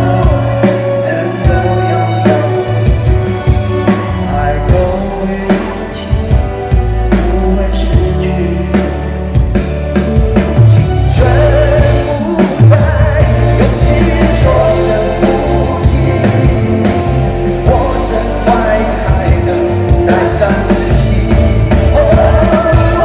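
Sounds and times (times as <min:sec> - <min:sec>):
man singing into microphone: 0:00.0 - 0:03.2, 0:04.0 - 0:09.3, 0:10.1 - 0:23.0
rock music with drums: 0:00.0 - 0:23.0.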